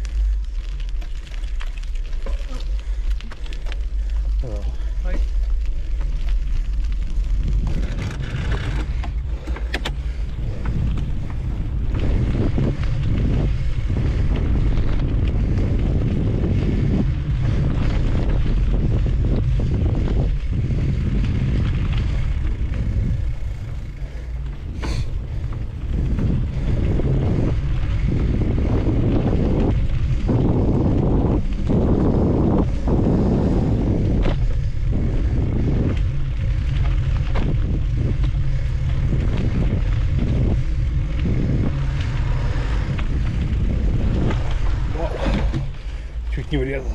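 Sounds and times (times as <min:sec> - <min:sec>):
bike tyres rattling on dirt: 0:00.0 - 0:46.9
wind buffeting microphone: 0:00.0 - 0:46.9.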